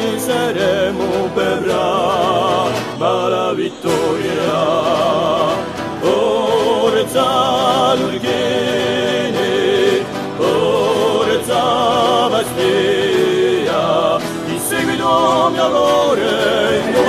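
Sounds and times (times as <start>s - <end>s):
group singing with vibrato: 0.0s - 17.0s
instrumental backing: 0.0s - 17.0s.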